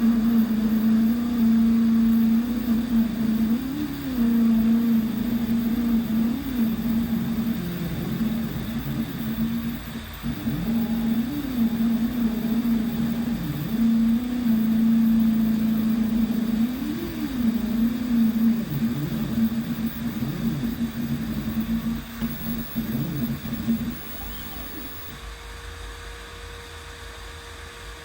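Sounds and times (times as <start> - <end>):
stepper motors whining: 0.0 - 25.2.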